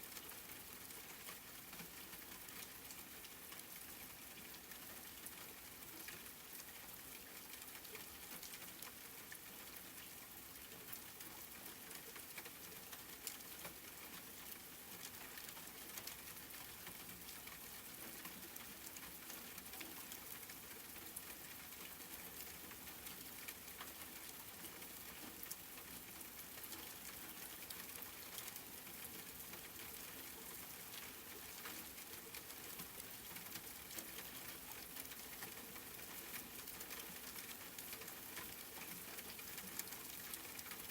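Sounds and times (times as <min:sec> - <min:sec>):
soft steady rain: 0:00.0 - 0:40.9.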